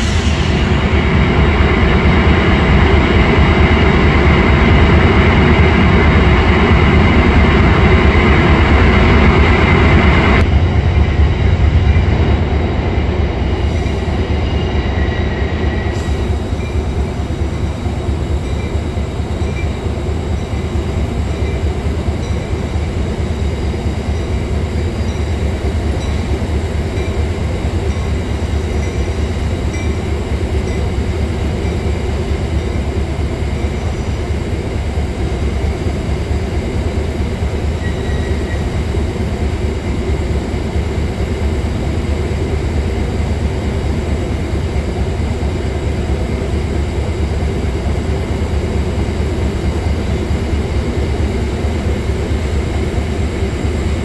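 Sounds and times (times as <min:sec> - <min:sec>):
diesel train engines rumbling: 0:00.0 - 0:54.0.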